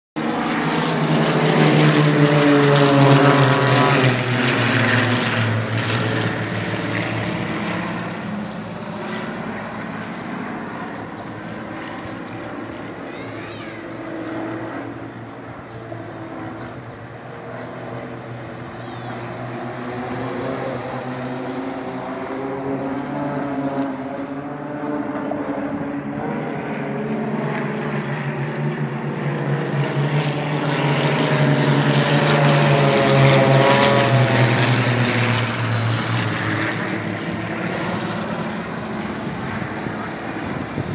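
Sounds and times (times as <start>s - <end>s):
propeller aircraft engine droning: 0.2s - 40.9s.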